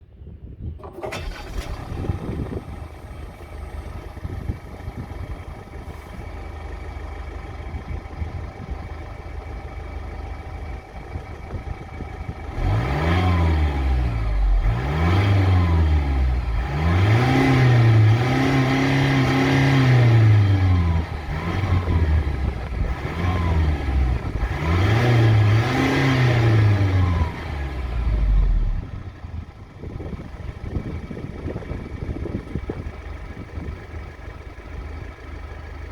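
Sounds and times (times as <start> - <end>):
diesel engine idling and revving: 0.0 - 35.9.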